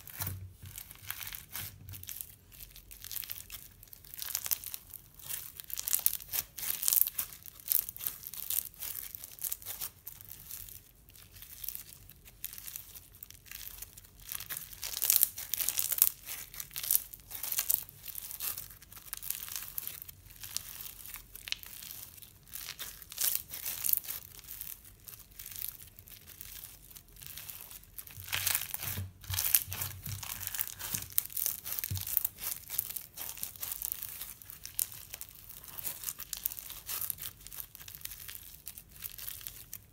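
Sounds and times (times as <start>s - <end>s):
slime crackling and tearing: 0.0s - 39.9s.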